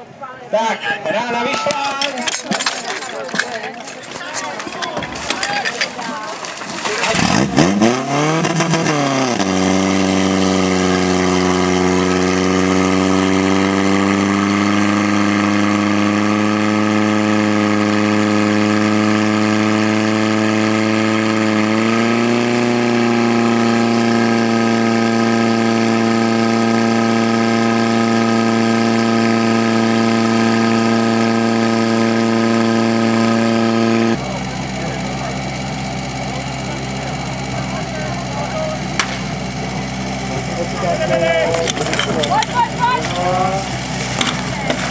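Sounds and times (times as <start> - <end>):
pump engine running at high revs: 1.6 - 44.9.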